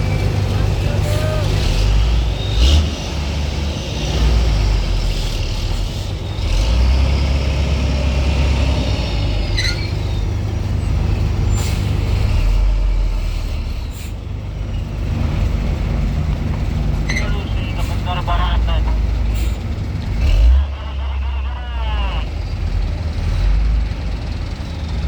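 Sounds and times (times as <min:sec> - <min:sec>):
heavy vehicle engines droning: 0:00.0 - 0:25.0.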